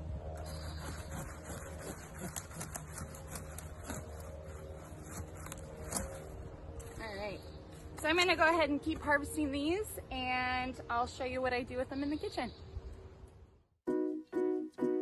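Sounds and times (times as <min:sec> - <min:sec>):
low steady hum: 0:00.0 - 0:13.6.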